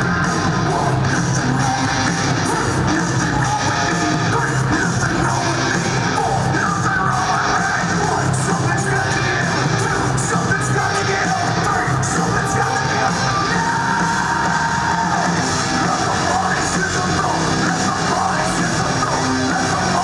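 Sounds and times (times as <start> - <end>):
crowd yelling and cheering: 0.0 - 20.0
heavy rock music with singing: 0.0 - 20.0.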